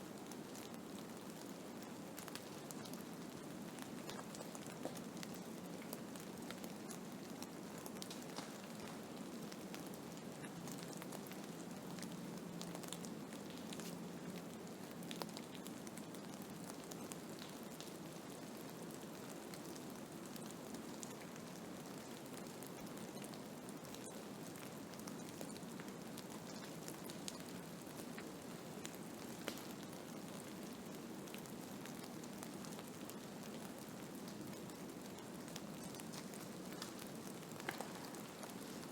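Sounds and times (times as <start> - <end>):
patter of small ticks: 0.2 - 38.9.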